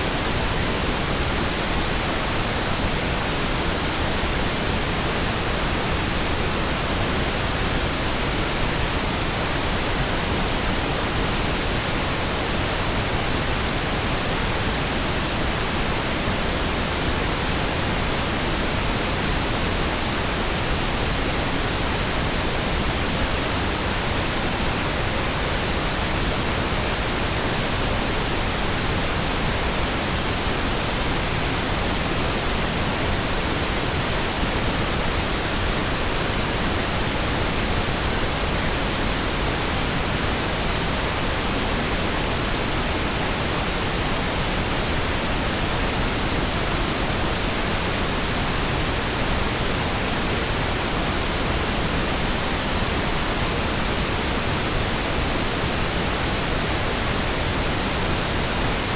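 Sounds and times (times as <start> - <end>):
pink noise hiss: 0.0 - 58.9.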